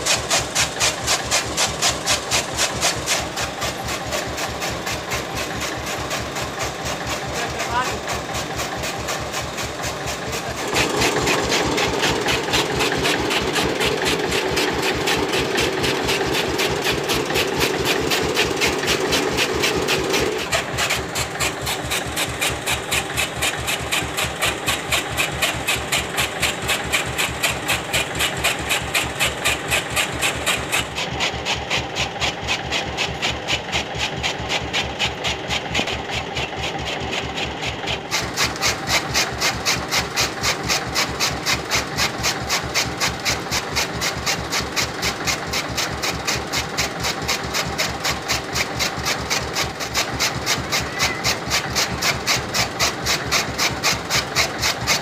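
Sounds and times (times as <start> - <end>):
chaff cutter blades chopping: 0.0 - 55.0
tractor engine running: 0.0 - 55.0.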